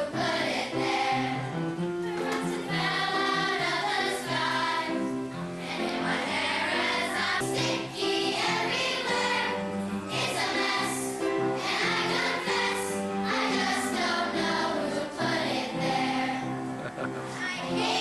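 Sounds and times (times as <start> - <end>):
children's choir singing: 0.0 - 18.0
instrumental accompaniment: 0.0 - 18.0.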